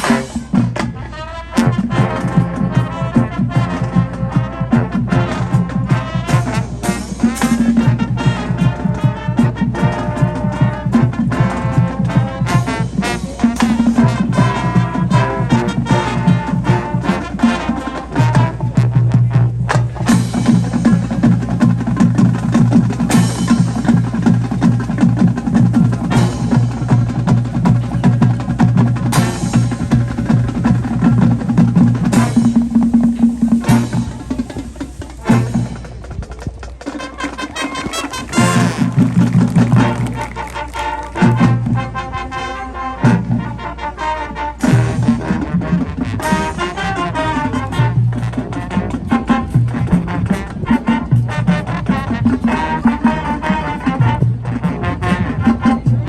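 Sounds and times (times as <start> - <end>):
low brass notes: 0.0 - 56.0
marching band drums: 0.0 - 56.0.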